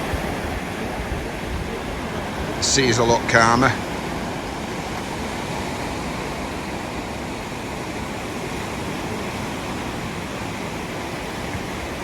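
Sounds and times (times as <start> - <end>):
sea surf washing on shore: 0.0 - 12.0.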